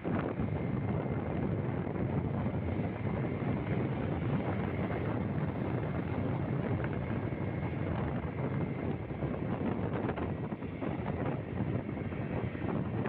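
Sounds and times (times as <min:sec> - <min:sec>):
vehicle rumble on road: 0:00.0 - 0:13.0
wind on microphone: 0:00.0 - 0:13.0.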